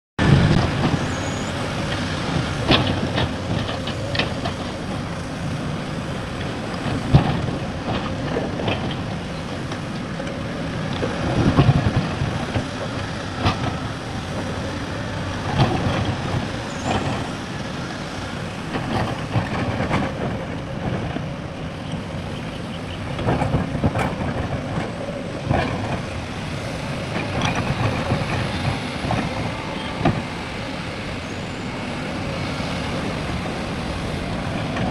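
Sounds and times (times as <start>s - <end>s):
heavy diesel machinery running: 0.2s - 34.9s.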